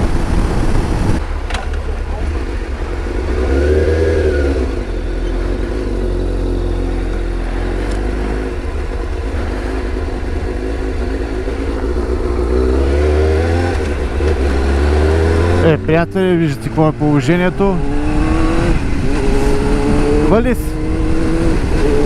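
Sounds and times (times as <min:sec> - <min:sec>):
motorcycle engine accelerating: 0:00.0 - 0:22.0
steady low drone: 0:00.0 - 0:22.0.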